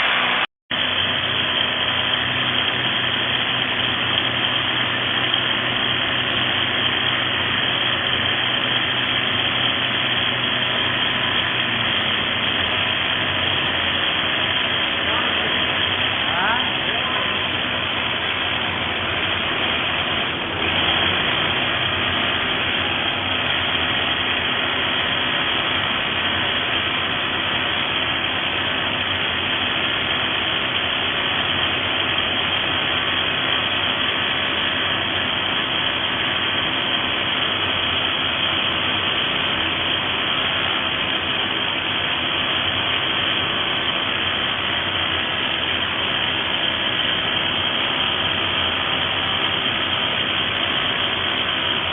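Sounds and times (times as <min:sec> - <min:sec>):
rotary hammer running: 0:00.0 - 0:51.9.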